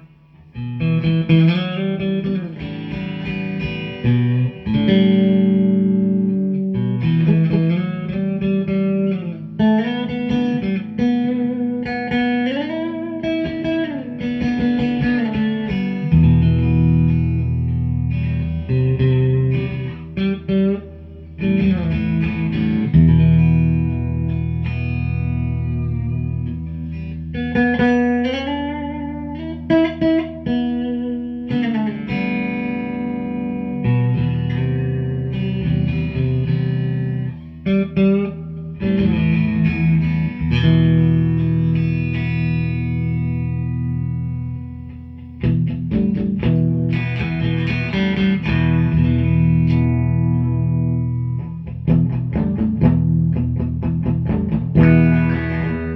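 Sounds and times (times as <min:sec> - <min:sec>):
electric guitar melody: 0:00.0 - 0:55.9.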